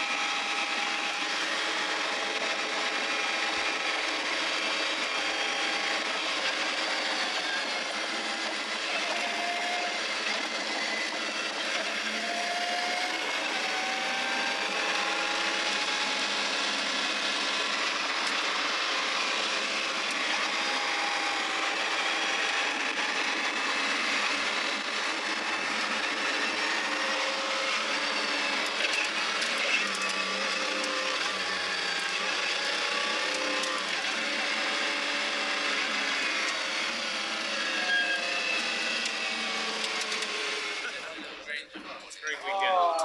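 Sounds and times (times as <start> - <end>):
road and wind noise: 0.0 - 40.8
car engine running: 0.0 - 41.4.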